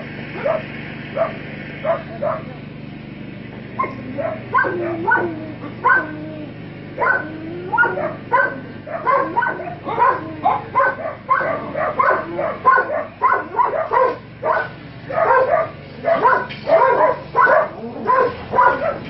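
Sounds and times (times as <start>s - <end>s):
dog yelping: 0.4s - 2.5s, 3.8s - 19.0s.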